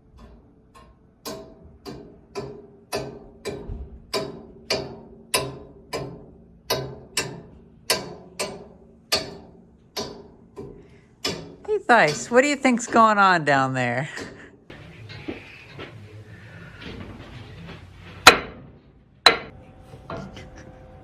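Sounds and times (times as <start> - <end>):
rhythmic banging on metal: 0.0 - 21.0.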